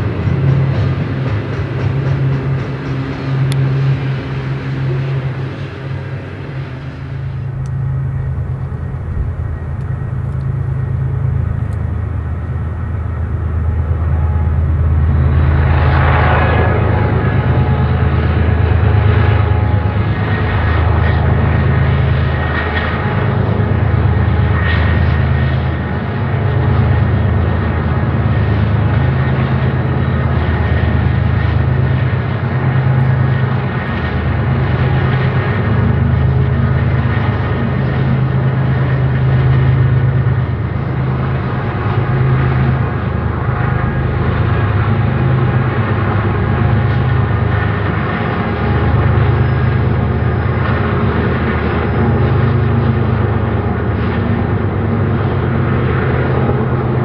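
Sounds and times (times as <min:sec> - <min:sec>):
diesel locomotives running past: 0:00.0 - 0:57.0.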